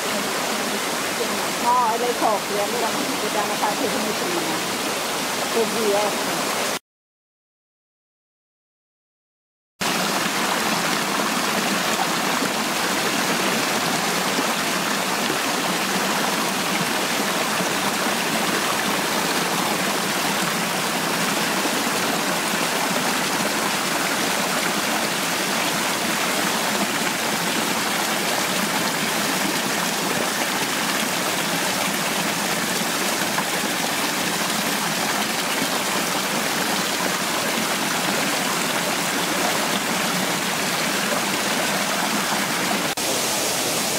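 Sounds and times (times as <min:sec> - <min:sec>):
fountain water splashing: 0:00.0 - 0:06.8, 0:09.8 - 0:43.9.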